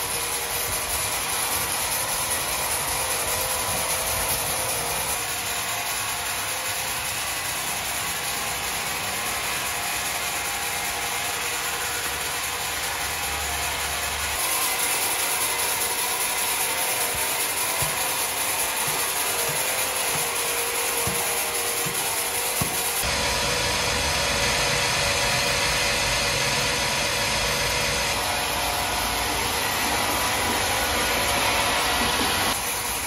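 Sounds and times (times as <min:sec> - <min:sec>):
sawmill machinery running: 0:00.0 - 0:33.0.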